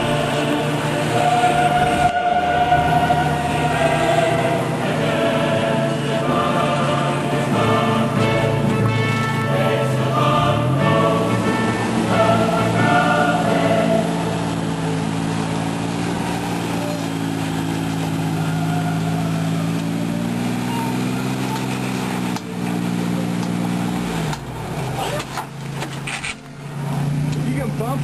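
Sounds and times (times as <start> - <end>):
truck engine running under load: 0.0 - 28.0.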